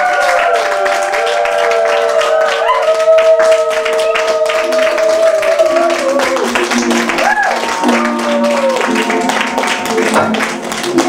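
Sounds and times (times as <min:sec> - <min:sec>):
music with long held notes: 0:00.0 - 0:11.0
small group clapping: 0:00.0 - 0:11.0.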